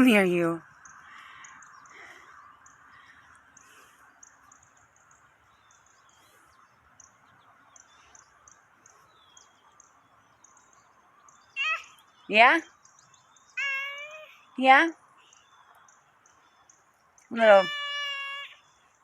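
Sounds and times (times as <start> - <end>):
faint high bird chirps: 0.0 - 19.0.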